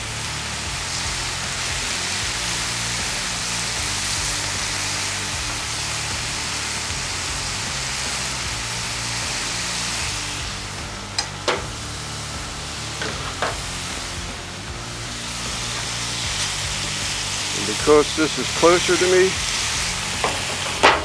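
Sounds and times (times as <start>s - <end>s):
food sizzling on a griddle: 0.0s - 21.0s
quiet background music: 3.3s - 21.0s.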